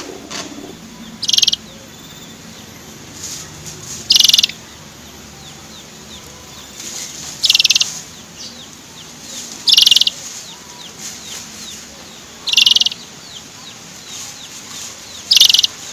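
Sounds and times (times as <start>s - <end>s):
canary buzzing trills: 0.0s - 8.7s, 9.5s - 13.4s, 15.1s - 15.9s.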